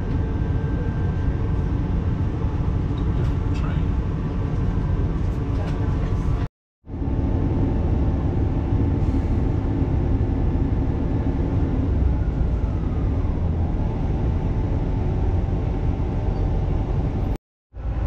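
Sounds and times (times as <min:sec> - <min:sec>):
steady hums: 0:00.0 - 0:17.3
train wheels rumbling on track: 0:00.0 - 0:18.0.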